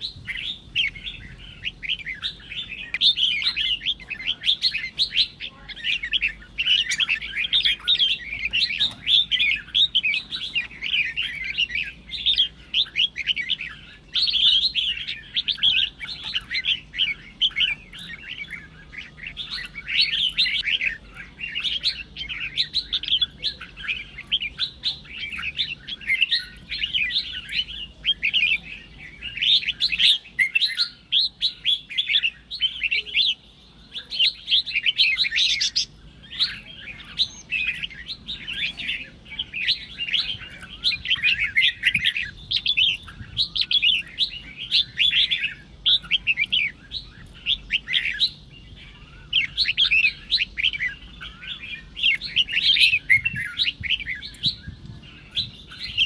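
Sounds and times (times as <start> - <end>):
bulbuls singing and chattering: 0.0 - 56.0.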